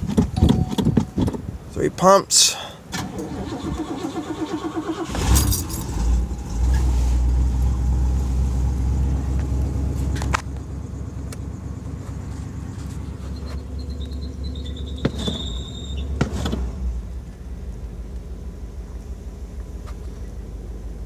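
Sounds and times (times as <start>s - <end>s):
car engine cold start and idle: 0.0s - 21.0s.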